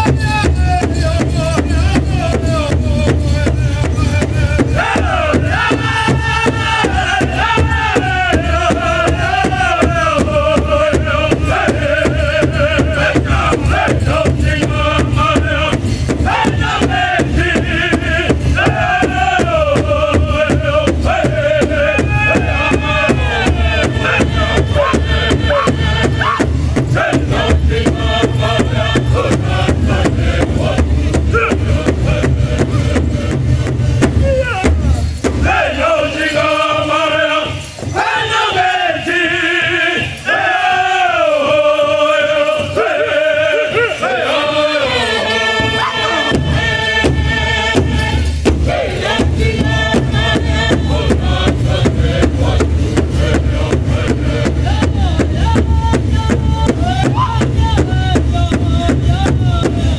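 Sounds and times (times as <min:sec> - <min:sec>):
large hide drum beating: 0:00.0 - 0:38.3, 0:45.5 - 0:59.9
men singing a chant: 0:00.0 - 0:59.9.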